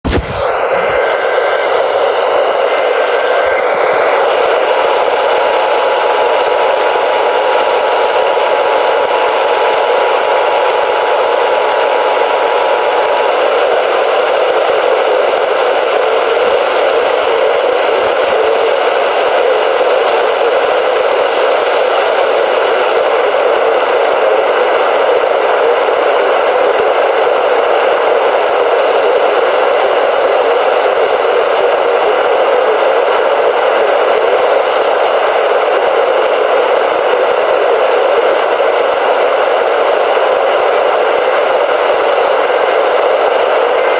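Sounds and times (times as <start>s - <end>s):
loud radio static hiss: 0.0s - 10.4s, 11.1s - 43.9s.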